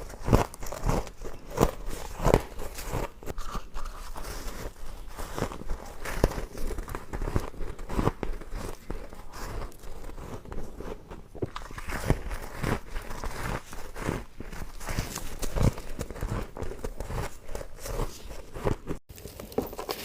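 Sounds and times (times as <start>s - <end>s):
ice being crunched by teeth: 0.0s - 20.0s.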